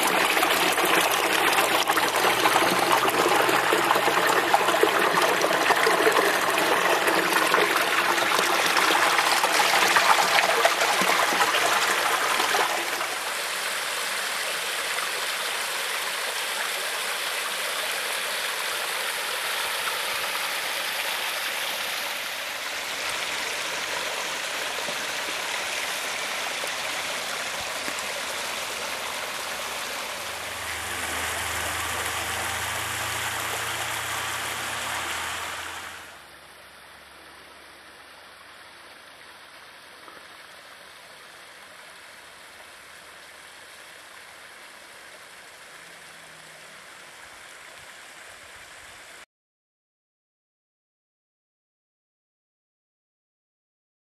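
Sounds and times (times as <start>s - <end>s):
waterfall splashing into pond: 0.0s - 37.1s, 37.7s - 49.2s.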